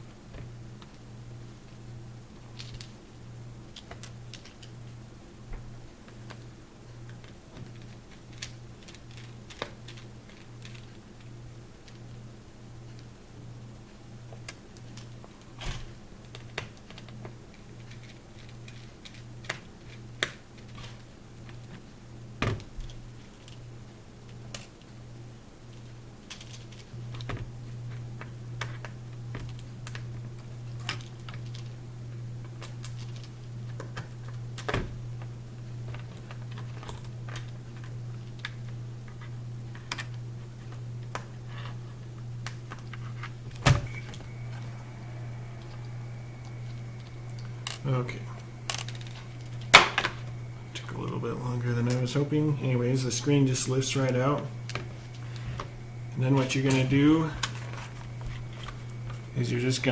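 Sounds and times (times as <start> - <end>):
low hum: 0.0 - 59.9.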